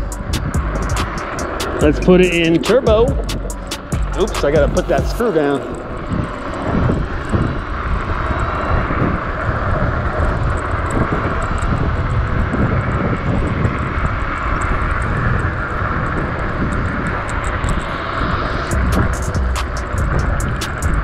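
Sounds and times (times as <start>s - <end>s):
tyres rumbling on rough road: 0.0s - 21.0s
wind rushing over microphone: 0.0s - 21.0s.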